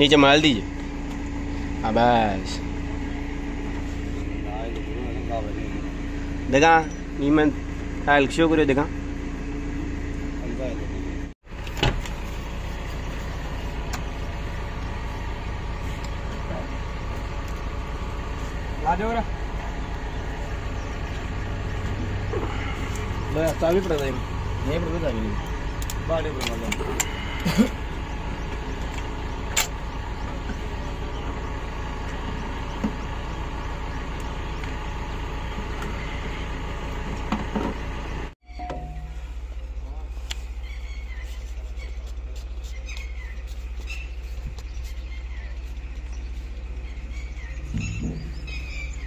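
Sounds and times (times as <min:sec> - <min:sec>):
low engine rumble: 0:00.0 - 0:49.0.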